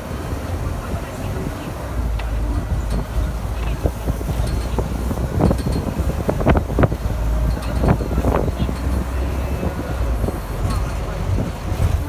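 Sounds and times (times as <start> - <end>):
passing vehicles rumbling: 0.0 - 12.0
wind buffeting microphone: 0.0 - 12.0.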